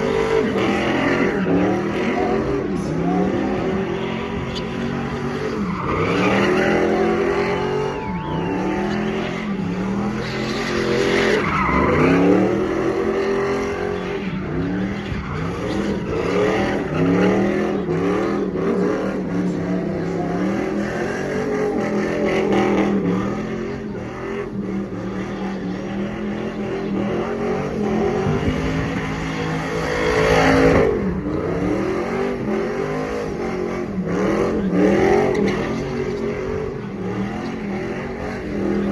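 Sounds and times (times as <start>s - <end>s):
pickup truck engine revving: 0.0s - 38.9s
tires squealing on pavement: 0.0s - 38.9s.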